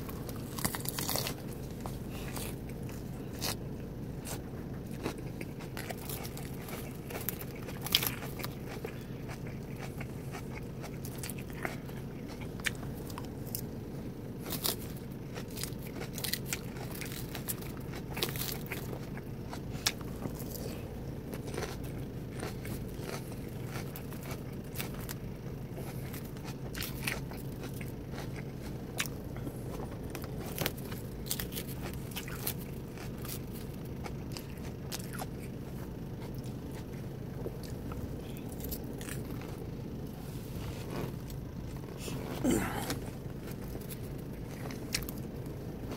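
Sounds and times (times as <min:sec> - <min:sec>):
salad being chewed: 0:00.0 - 0:45.9
steady low hum: 0:00.0 - 0:45.9.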